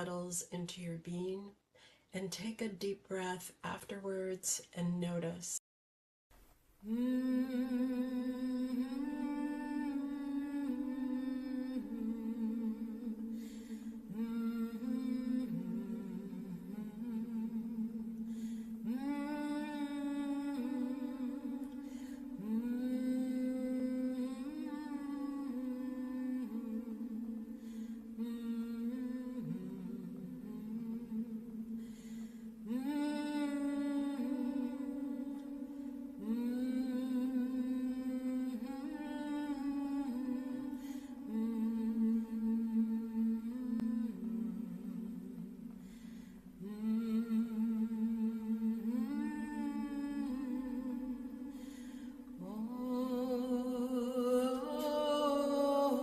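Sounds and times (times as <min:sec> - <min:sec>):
person chanting hummed notes: 0:06.8 - 0:56.0.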